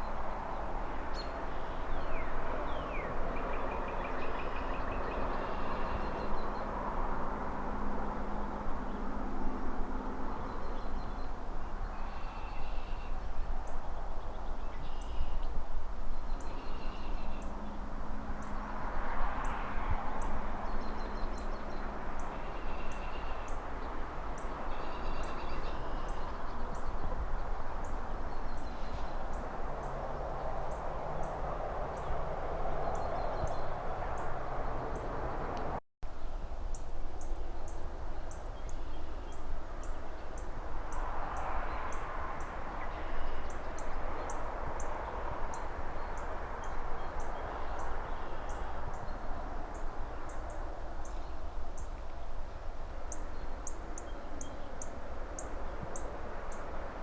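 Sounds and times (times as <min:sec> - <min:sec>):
distant traffic: 0:00.0 - 0:57.0
wind in trees: 0:00.0 - 0:57.0.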